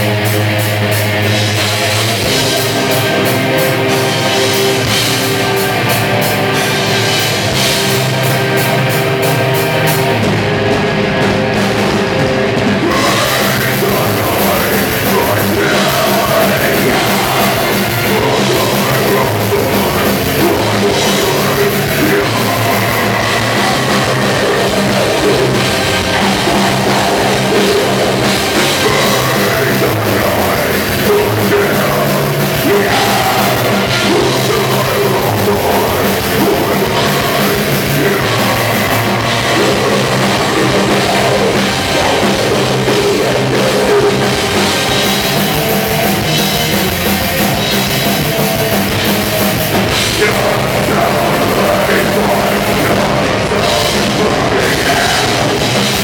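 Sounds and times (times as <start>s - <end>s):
distorted guitars: 0.0s - 56.0s
drum kit: 0.0s - 56.0s.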